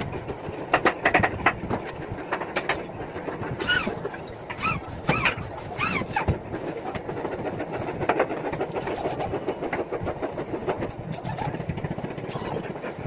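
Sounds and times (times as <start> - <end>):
steady mechanical background noise: 0.0 - 13.0.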